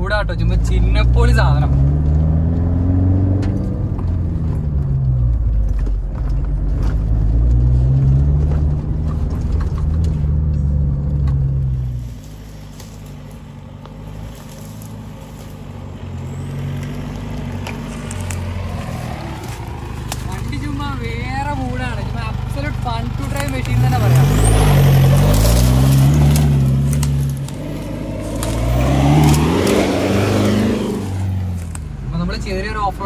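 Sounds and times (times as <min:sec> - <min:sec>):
diesel engine driving: 0:00.0 - 0:33.0.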